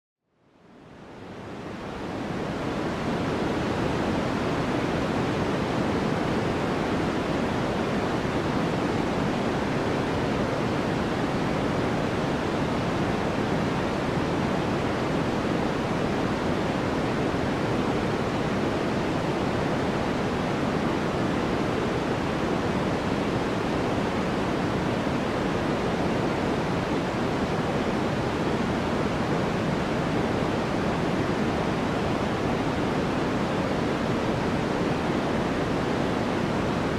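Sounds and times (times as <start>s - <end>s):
white noise hiss: 0.3s - 36.9s.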